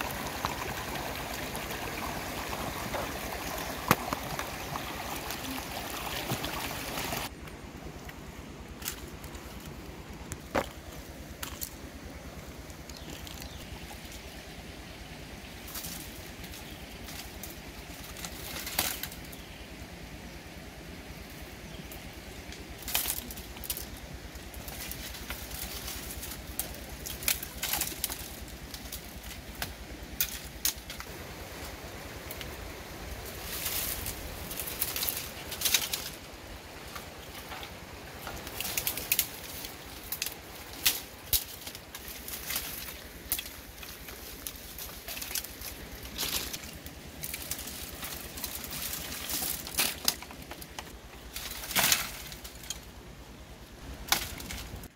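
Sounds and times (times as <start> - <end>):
leaves and branches rustling: 0.0 - 54.9
low outdoor background: 0.0 - 54.9.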